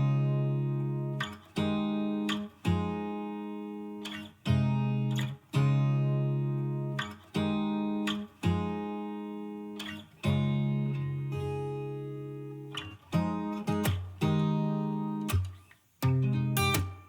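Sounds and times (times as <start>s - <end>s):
strummed guitar chords: 0.0s - 17.0s.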